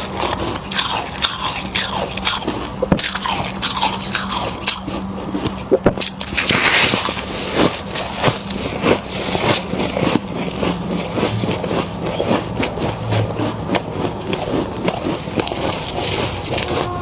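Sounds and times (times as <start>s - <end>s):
frost being chewed: 0.0s - 17.0s
steady low hum: 0.0s - 17.0s.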